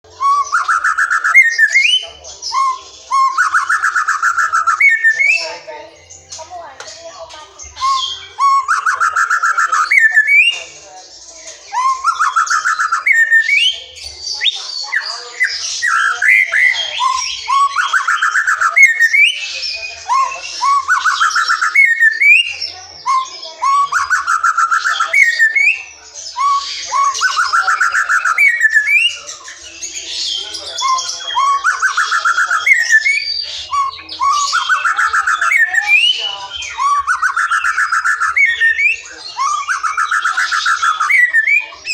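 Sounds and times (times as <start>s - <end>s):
bird singing whistled phrases: 0.1s - 5.6s, 7.6s - 10.8s, 11.6s - 41.9s
rapid buzzy bird trill: 0.1s - 6.3s, 7.6s - 41.9s.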